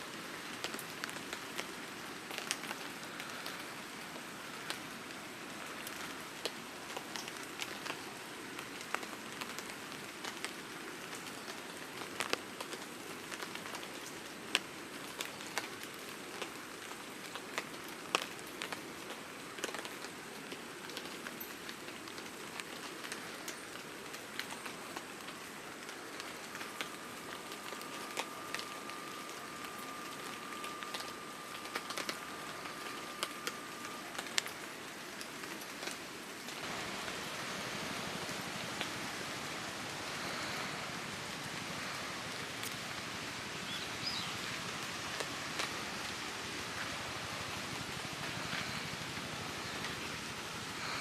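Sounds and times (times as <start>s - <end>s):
rain falling: 0.0s - 51.0s
raindrops ticking close by: 0.0s - 51.0s.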